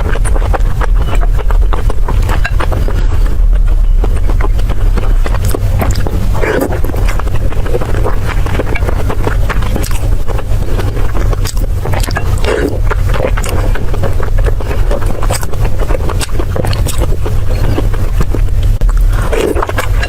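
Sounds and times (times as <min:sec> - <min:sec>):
chewing and biting: 0:00.0 - 0:20.0
low rumble: 0:00.0 - 0:20.0
mouth clicks and smacks: 0:00.0 - 0:20.0.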